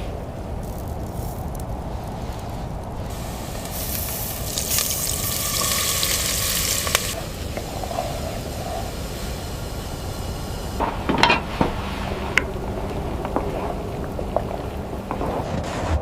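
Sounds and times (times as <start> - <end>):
steady low rumble: 0.0 - 16.0
hot pan sizzling: 0.4 - 15.4.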